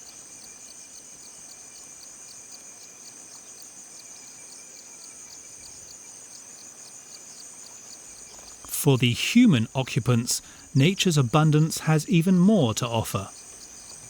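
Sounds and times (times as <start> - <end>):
insect chirping: 0.1 - 8.8, 9.4 - 12.3, 13.2 - 14.0.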